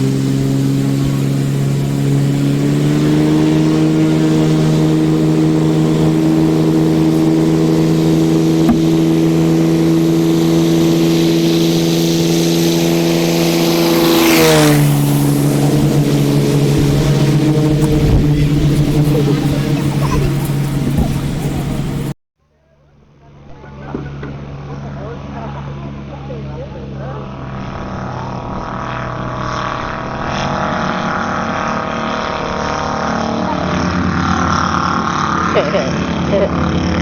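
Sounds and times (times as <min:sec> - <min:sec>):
propeller aircraft engine drone: 0:00.0 - 0:22.2, 0:23.0 - 0:37.0.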